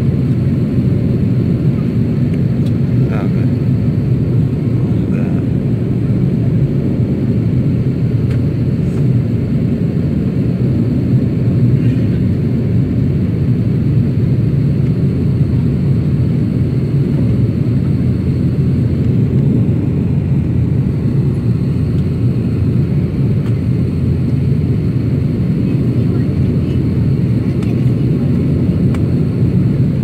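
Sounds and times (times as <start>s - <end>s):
airliner engines rumbling: 0.0s - 30.0s.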